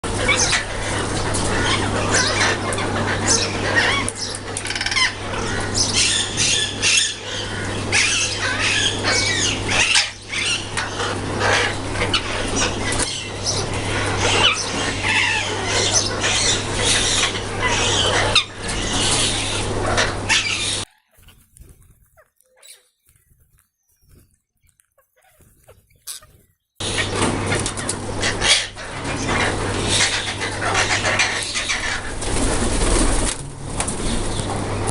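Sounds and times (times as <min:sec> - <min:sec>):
parrots chattering and squawking: 0:00.0 - 0:33.2.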